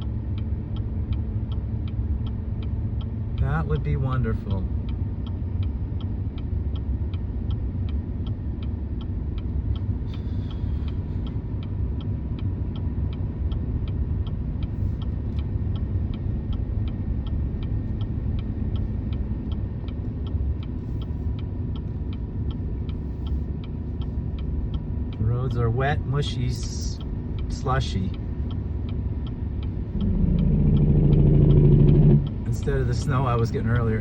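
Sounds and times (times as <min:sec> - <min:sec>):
engine and tyre rumble: 0:00.0 - 0:34.0
light even ticking: 0:00.0 - 0:34.0.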